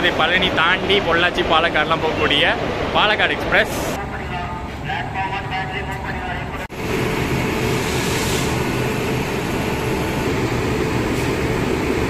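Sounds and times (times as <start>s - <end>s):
locomotive cooling blowers roaring: 0.0s - 12.0s.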